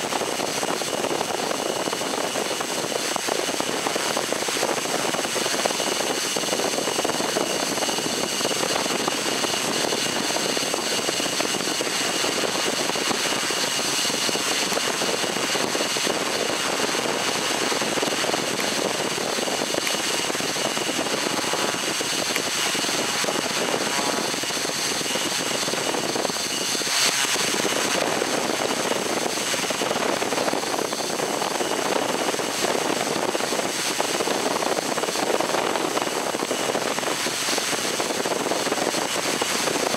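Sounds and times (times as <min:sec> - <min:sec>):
drone motors and propellers: 0:00.0 - 0:39.9.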